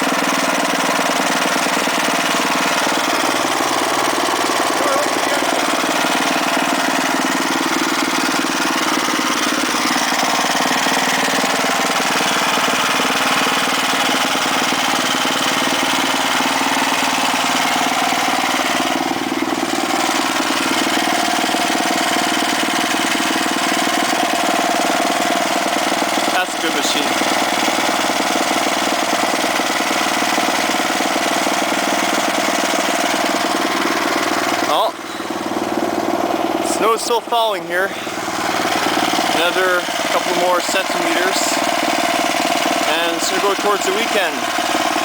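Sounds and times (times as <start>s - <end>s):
snowblower engine running: 0.0s - 45.0s.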